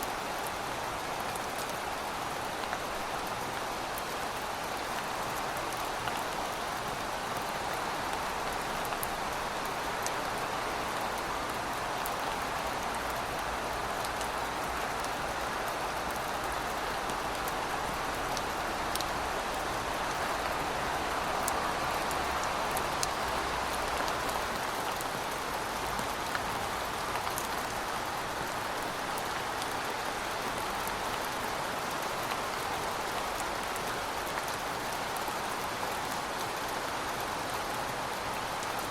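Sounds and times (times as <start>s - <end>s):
steady rainfall hiss: 0.0s - 38.9s
raindrops ticking on surface: 1.1s - 38.9s.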